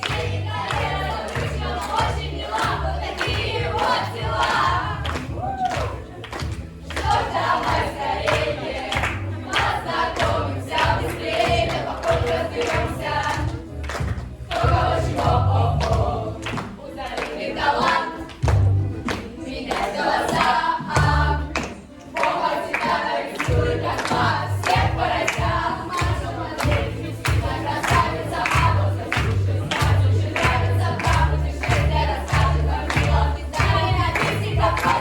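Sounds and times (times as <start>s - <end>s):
group of voices singing: 0.0s - 35.0s.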